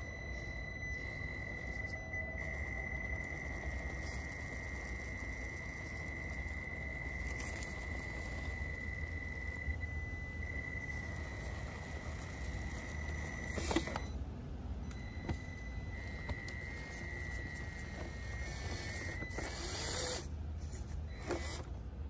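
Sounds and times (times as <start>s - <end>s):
small electric motor whining: 0.0s - 14.2s, 15.0s - 21.7s.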